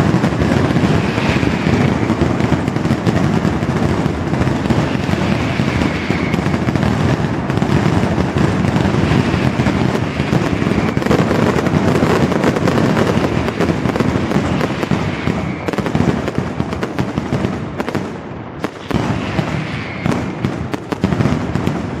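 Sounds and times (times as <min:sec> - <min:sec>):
firecrackers banging: 0:00.0 - 0:22.0.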